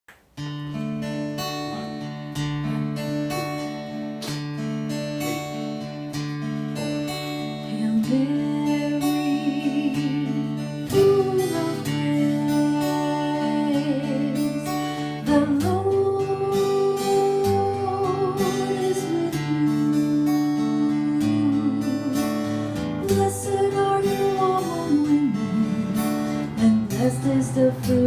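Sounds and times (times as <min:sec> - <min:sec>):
acoustic guitar playing slowly: 0:00.1 - 0:28.0.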